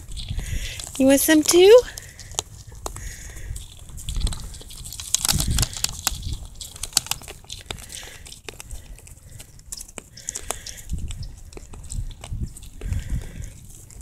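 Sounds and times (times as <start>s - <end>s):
deer crunching corn kernels: 0.0s - 14.0s.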